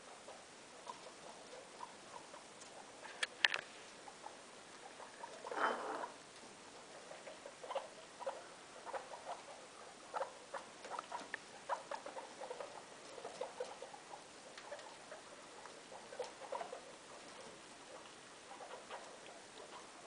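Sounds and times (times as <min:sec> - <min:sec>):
guinea pigs squeaking: 0:00.0 - 0:20.0.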